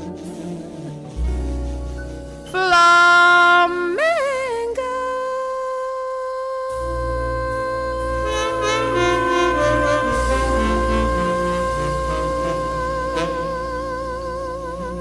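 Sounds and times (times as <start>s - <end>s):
jazz band instrumental with horns: 0.0s - 3.9s, 6.8s - 15.0s.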